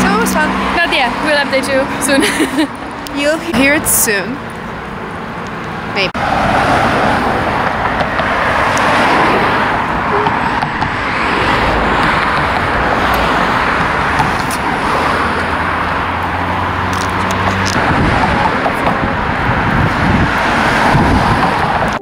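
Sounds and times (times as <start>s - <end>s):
cars passing close by: 0.0s - 22.0s.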